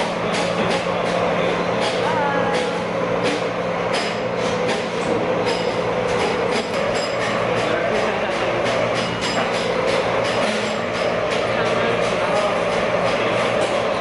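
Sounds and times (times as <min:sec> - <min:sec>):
mechanical rumble and hum: 0:00.0 - 0:14.0.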